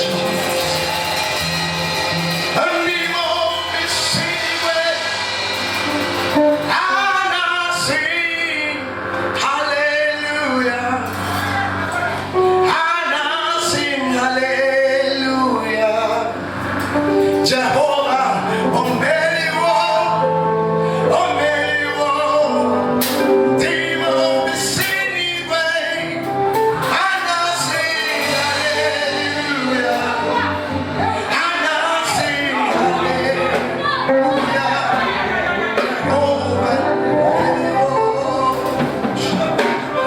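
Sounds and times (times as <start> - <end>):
instrumental accompaniment: 0.0 - 40.0
man singing gospel: 2.5 - 40.0.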